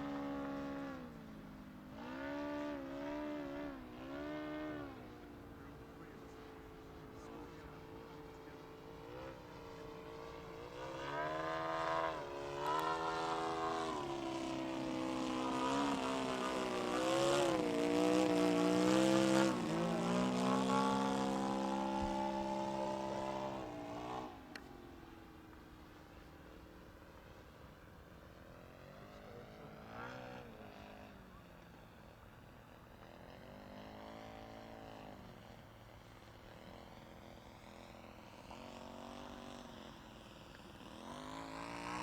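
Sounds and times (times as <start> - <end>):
model airplane engine flying past: 0.0 - 42.0.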